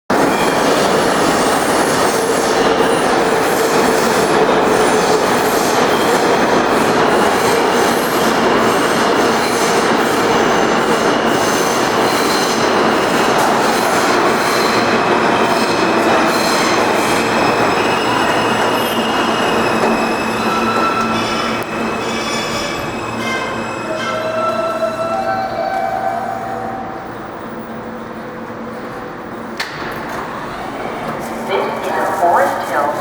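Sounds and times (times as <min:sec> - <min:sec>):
subway train rumbling on track: 0:00.1 - 0:33.0.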